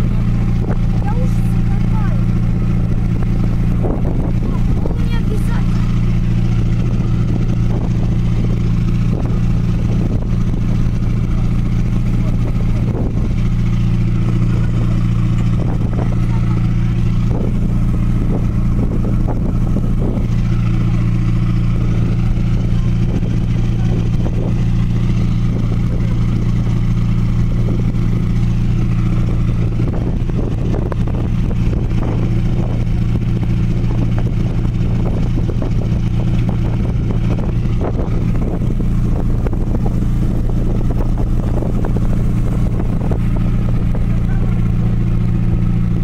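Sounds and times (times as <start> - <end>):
ferry engine droning: 0.0 - 46.0.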